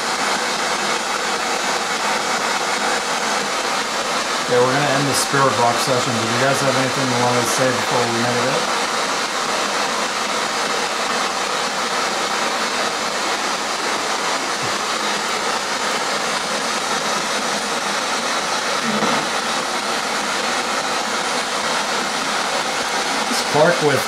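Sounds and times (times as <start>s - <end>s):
radio static hiss: 1.0s - 24.0s.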